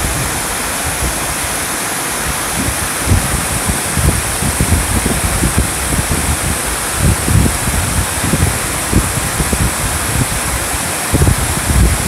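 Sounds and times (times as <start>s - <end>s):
waterfall rushing: 0.0s - 12.0s
wind rumbling on microphone: 0.0s - 12.0s.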